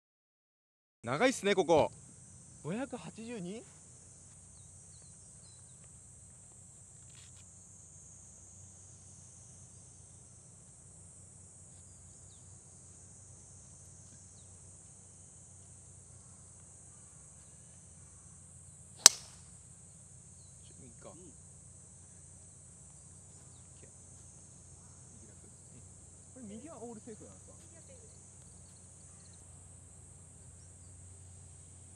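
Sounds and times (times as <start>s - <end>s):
faint insect chirps: 1.0s - 31.9s.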